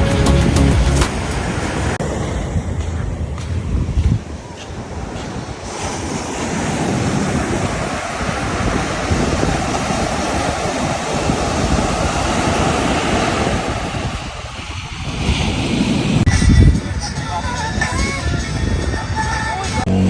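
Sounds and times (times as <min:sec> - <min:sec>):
ocean surf washing in: 0:00.0 - 0:20.0
wind buffeting microphone: 0:00.0 - 0:20.0.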